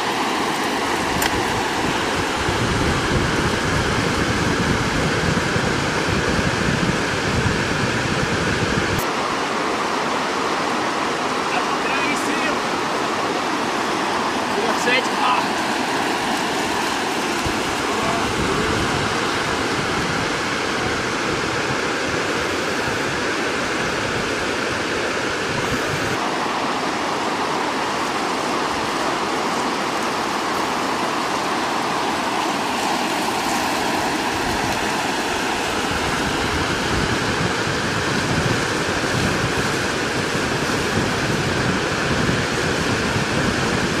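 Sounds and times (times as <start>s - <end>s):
water rushing over weir: 0.0s - 44.0s.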